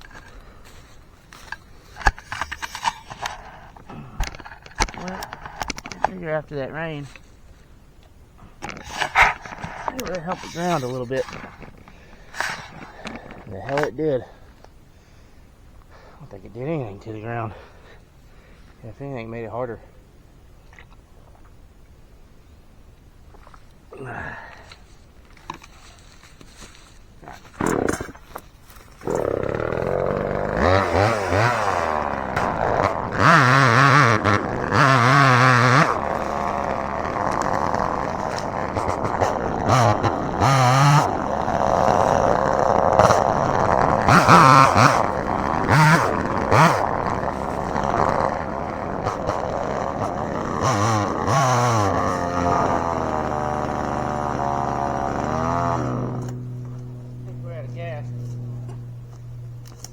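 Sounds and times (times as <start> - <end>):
chainsaw revving: 0.0 - 7.6, 8.4 - 14.7, 23.5 - 59.9.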